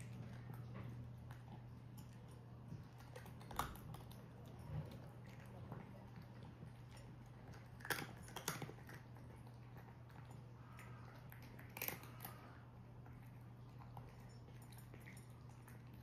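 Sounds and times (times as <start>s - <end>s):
cat crunching dry kibble: 0.0s - 16.0s.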